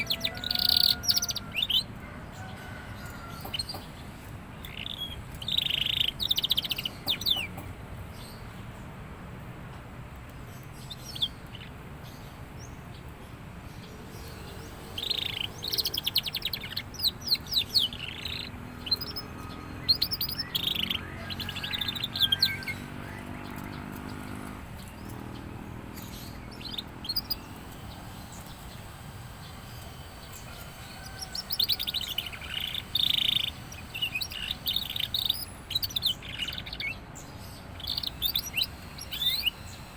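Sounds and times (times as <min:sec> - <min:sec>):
canary chirping and trilling: 0:00.0 - 0:03.8, 0:04.6 - 0:07.6, 0:13.7 - 0:39.9.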